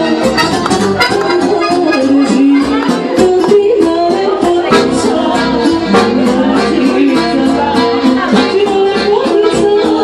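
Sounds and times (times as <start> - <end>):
woman singing into microphone: 0.0 - 10.0.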